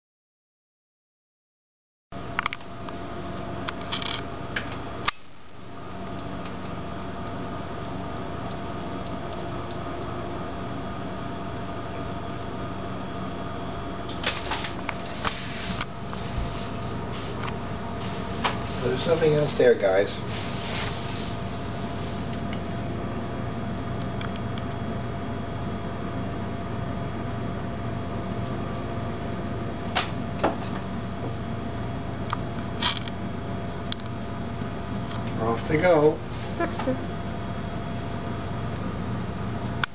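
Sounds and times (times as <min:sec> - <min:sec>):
mechanical hum with held tones: 0:02.1 - 0:39.9.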